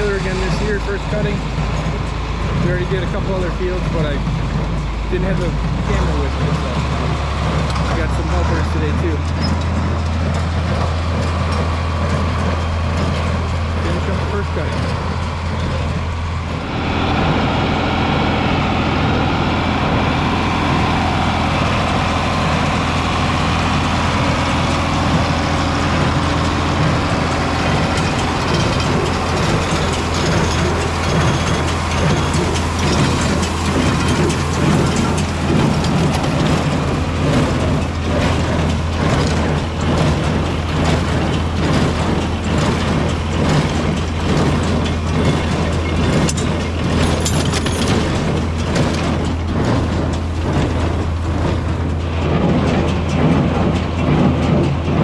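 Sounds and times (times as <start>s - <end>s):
hay baler mechanical clatter: 0.0s - 55.0s
tractor engine running: 0.0s - 55.0s.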